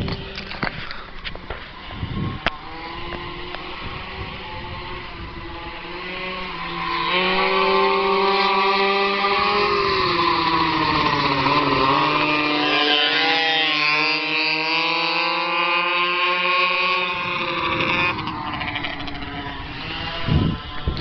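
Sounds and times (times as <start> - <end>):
pocket bike engines revving: 0.0 - 21.0.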